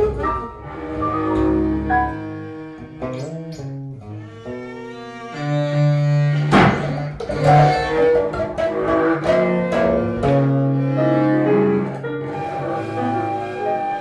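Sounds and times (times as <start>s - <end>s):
bowed cello low notes: 0.0s - 14.0s.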